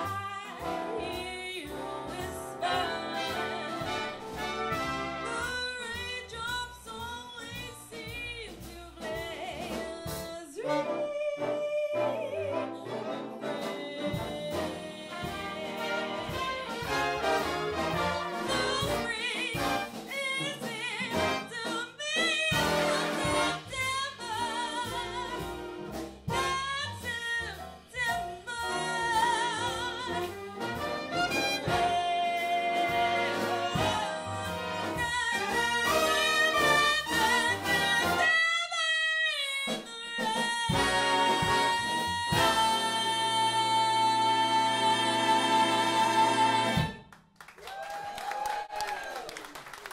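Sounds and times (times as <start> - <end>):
woman singing: 0.0 - 4.2, 5.2 - 17.2, 18.4 - 47.0
big band playing swing: 0.0 - 47.8.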